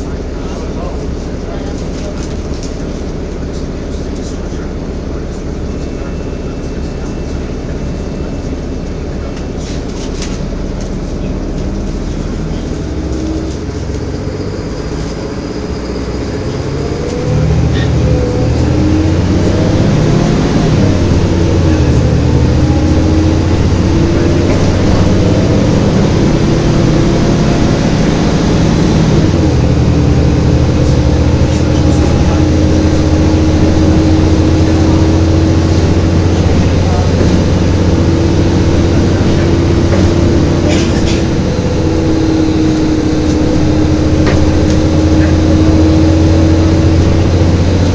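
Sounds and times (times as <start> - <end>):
bus engine and road rumble: 0.0 - 47.9.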